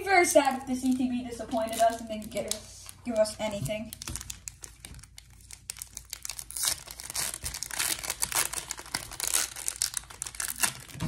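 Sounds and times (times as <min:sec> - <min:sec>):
foil wrapper crinkling: 0:00.4 - 0:11.0.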